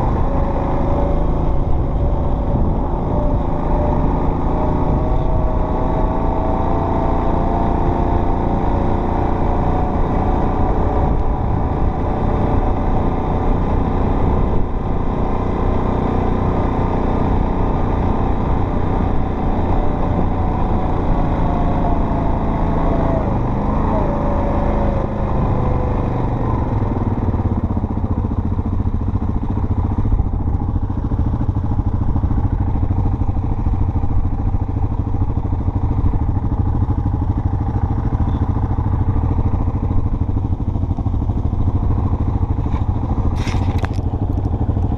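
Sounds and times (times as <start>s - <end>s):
off-road vehicle engine running: 0.0s - 44.9s.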